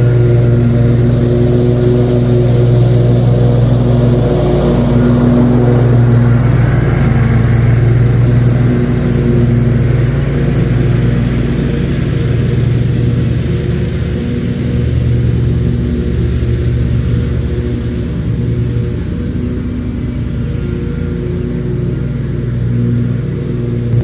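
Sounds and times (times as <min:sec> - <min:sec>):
riding lawn mower engine: 0:00.0 - 0:24.0.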